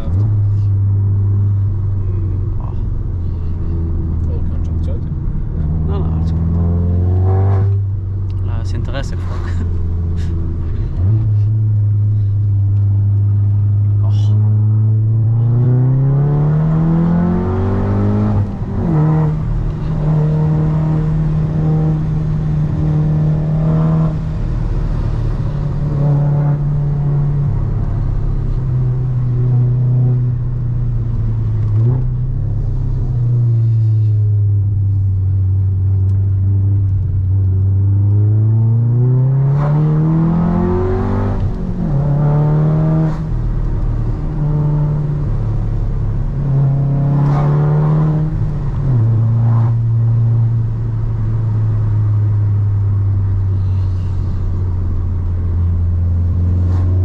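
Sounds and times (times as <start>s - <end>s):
car engine revving and upshifting: 0.0s - 57.0s.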